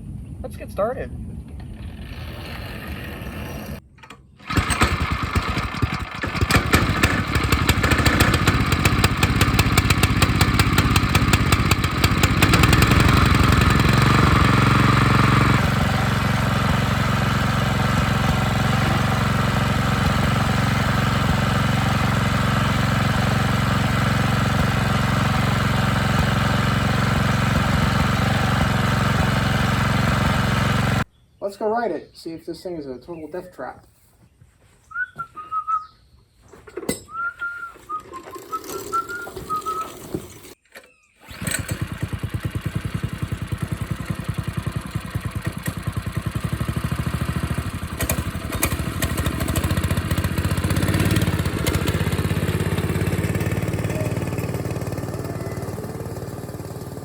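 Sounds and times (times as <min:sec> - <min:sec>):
minibike engine running: 0:01.6 - 0:31.0, 0:37.9 - 0:40.6, 0:41.2 - 0:57.0.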